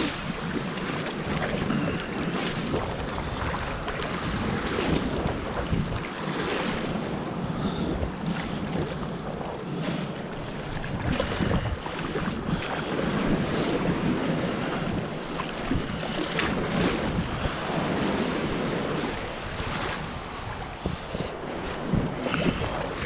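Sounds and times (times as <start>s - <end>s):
small waves splashing around legs: 0.0s - 23.0s
wind buffeting microphone: 0.0s - 23.0s.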